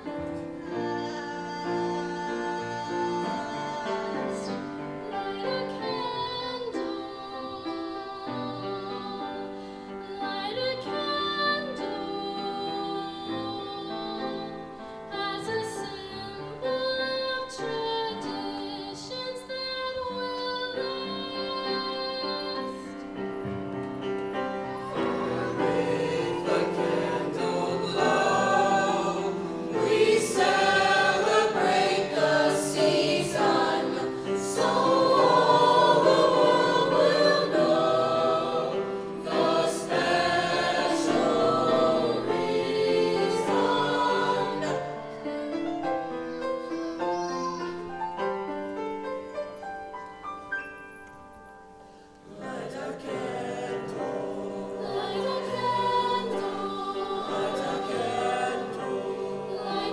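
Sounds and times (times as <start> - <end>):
choir singing: 0.0 - 49.3, 52.1 - 59.9.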